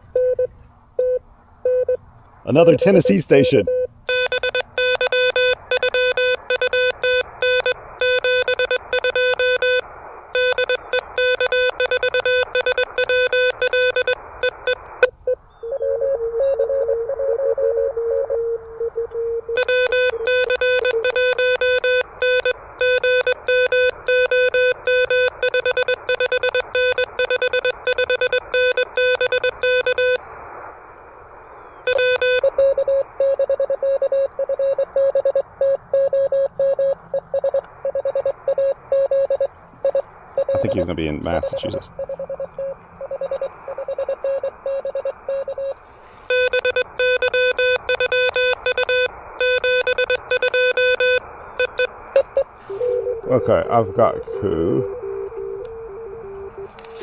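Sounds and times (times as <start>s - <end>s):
weaker lower morse tone: 0.1s - 57.0s
fast morse code tone: 0.2s - 14.9s, 15.6s - 30.3s, 31.9s - 57.0s
receiver hiss: 2.4s - 18.0s, 19.4s - 57.0s.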